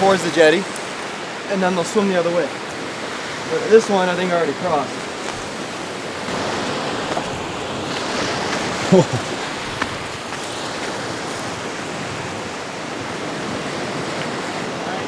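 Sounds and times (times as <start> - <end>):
waves washing against rocks: 0.0 - 15.0.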